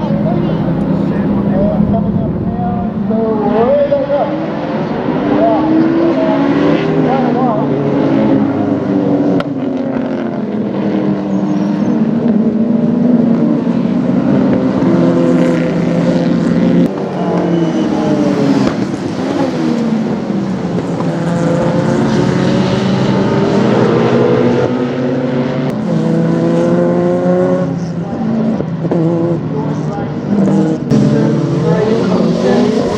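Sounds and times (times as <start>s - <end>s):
race car engine revving: 0.0s - 32.9s.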